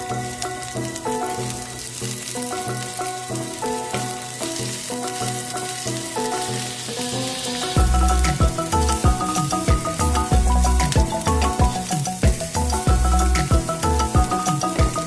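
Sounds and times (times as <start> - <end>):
food sizzling in a pan: 0.0 - 15.0
instrumental background music: 0.0 - 15.0.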